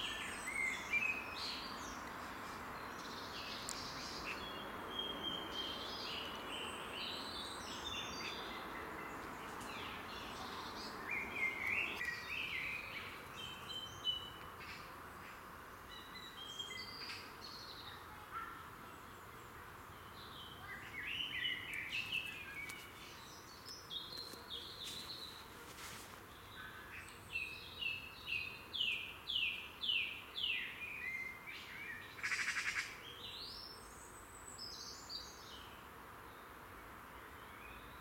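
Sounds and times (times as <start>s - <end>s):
songbirds singing: 0.0s - 25.6s, 26.2s - 38.0s
faint steady hiss: 0.0s - 38.0s.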